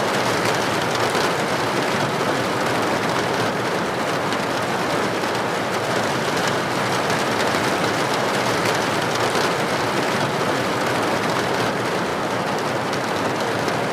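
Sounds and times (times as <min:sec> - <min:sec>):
rain falling: 0:00.1 - 0:13.9.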